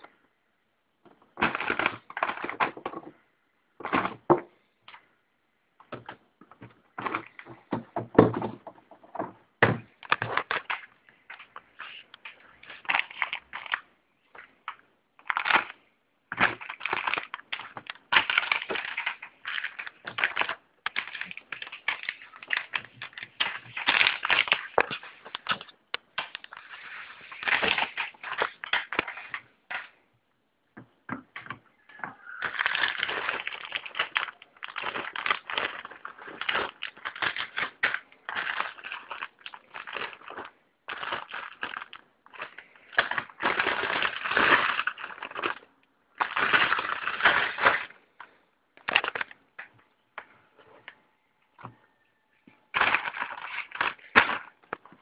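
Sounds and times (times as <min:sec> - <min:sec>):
plastic bags crinkling: 0:01.2 - 0:03.2, 0:05.9 - 0:30.0, 0:32.2 - 0:49.7, 0:52.6 - 0:55.0.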